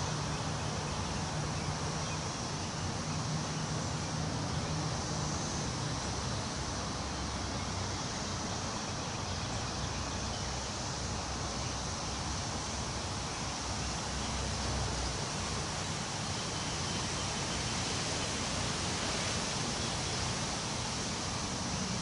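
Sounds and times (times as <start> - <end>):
wind rustling leaves: 0.0 - 22.0.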